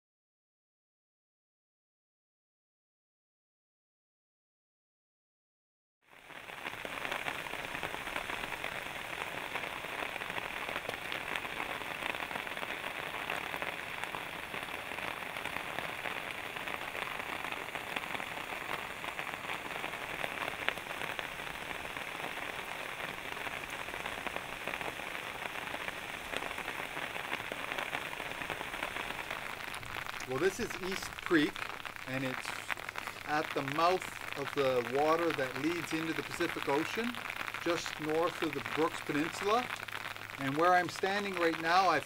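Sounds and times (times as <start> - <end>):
steady rain falling: 6.1 - 42.0.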